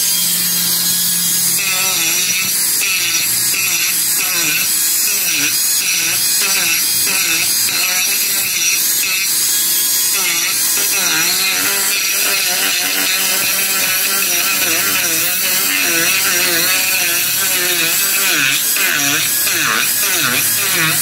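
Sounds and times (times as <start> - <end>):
rotary tool grinding wood: 0.0 - 21.0.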